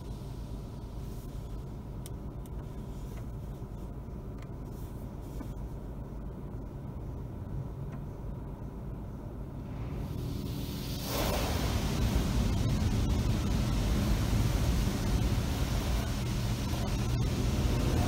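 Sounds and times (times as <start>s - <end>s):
muffled car wash rumble: 0.0s - 18.0s.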